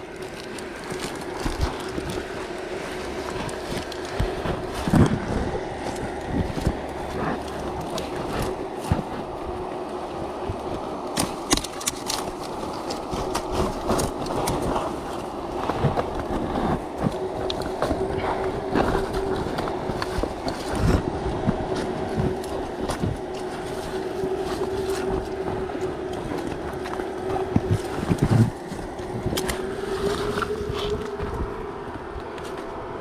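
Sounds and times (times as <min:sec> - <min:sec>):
clothing and rope rustling: 0:00.0 - 0:33.0
steady hum: 0:00.0 - 0:33.0.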